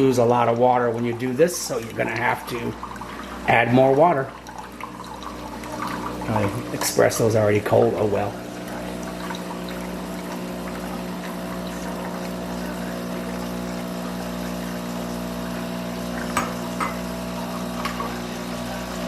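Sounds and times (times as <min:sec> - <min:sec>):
espresso machine pump humming: 0:00.0 - 0:19.0
water pouring into a cup: 0:00.0 - 0:19.0.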